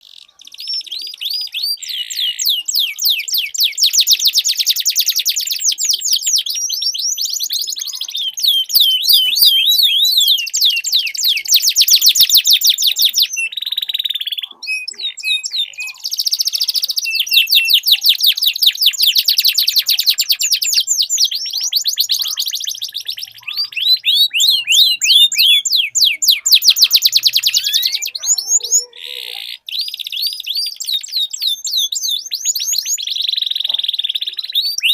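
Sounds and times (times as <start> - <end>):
canary trilling song: 0.0 - 34.9.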